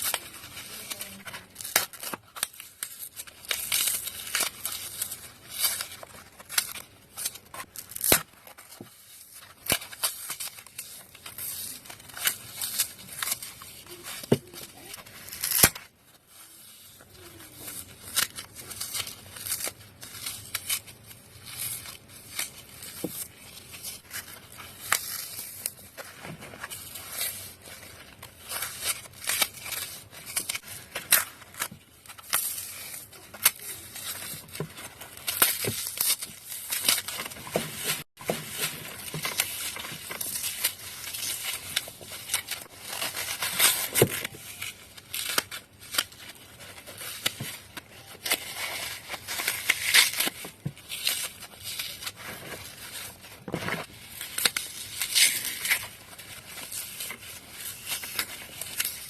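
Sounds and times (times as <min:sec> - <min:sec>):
floral foam crunching: 0:00.0 - 0:59.0.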